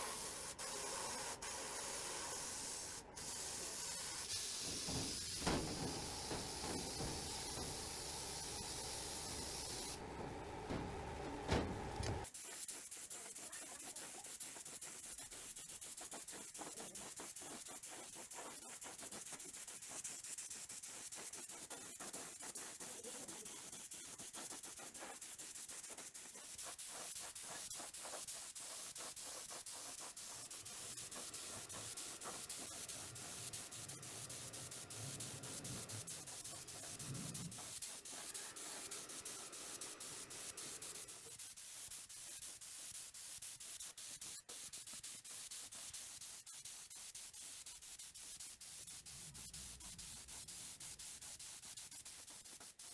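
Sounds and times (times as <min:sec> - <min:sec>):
hand sanding strokes: 0:00.0 - 0:52.9.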